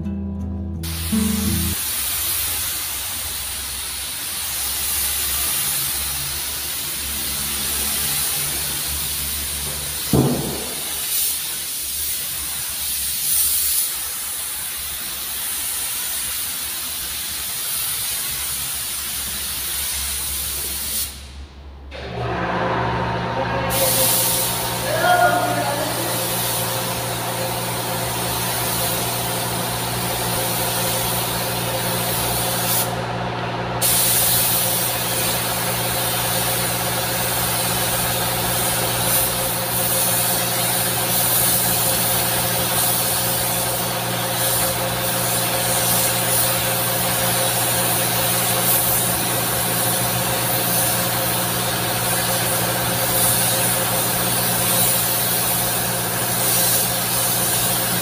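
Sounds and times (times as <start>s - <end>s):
air spray gun hissing: 0.8s - 21.4s, 23.7s - 33.0s, 33.8s - 58.0s.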